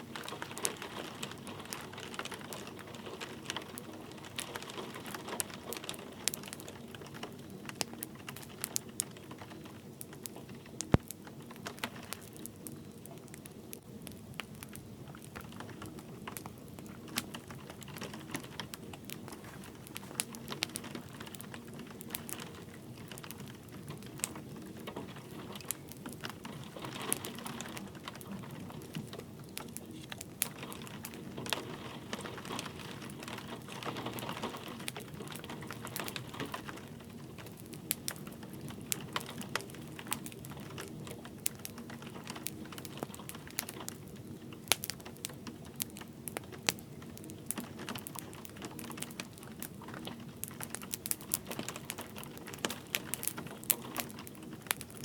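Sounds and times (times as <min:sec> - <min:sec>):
light rain pattering: 0:00.0 - 0:55.0
wood fire crackling: 0:00.0 - 0:55.0.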